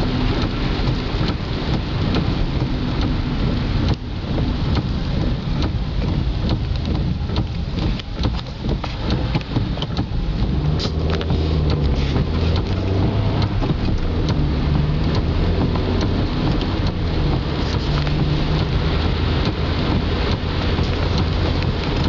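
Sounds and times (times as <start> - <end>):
car engine hum: 0.0 - 22.0
raindrops ticking on windshield: 0.0 - 22.0.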